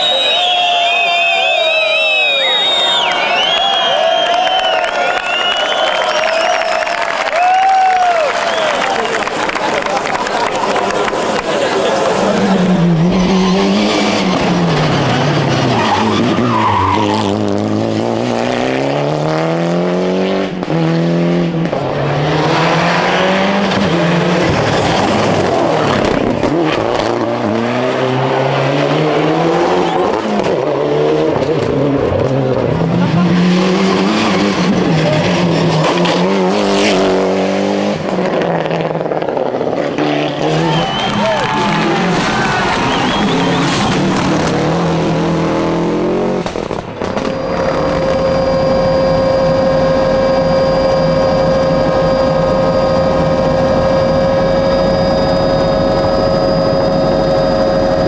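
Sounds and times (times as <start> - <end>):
rally car engines revving: 8.4 - 58.0.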